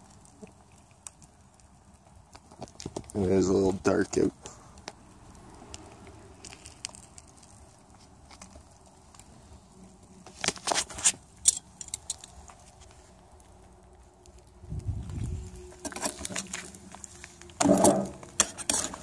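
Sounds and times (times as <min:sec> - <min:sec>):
eggs sizzling in a frying pan: 0:00.0 - 0:03.3, 0:04.7 - 0:10.6, 0:11.2 - 0:19.0.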